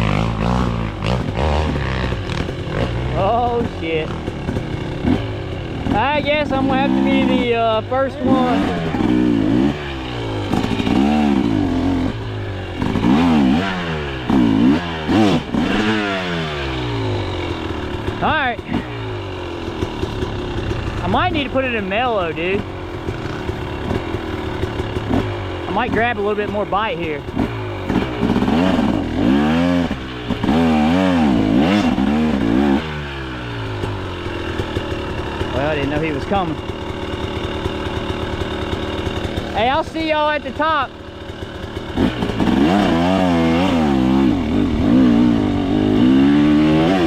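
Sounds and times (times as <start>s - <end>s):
two-stroke engine revving: 0.0s - 47.0s.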